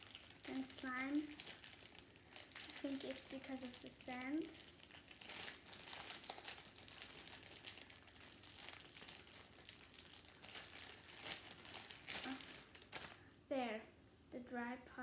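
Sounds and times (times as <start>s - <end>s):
crumbly slime crackling: 0.0s - 13.7s.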